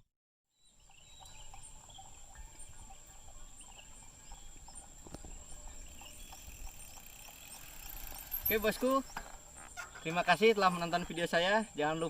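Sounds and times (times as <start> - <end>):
bird chirps: 0.5 - 12.0.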